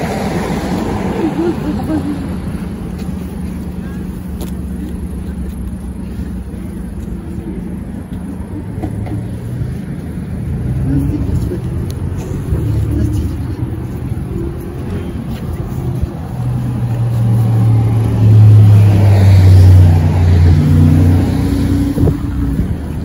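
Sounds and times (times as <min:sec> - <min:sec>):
traffic engine drone: 0:00.0 - 0:23.0.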